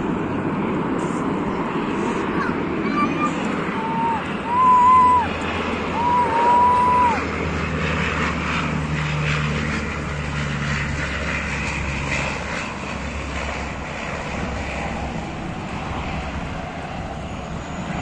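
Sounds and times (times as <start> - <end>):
propeller plane engines droning: 0.0 - 18.0.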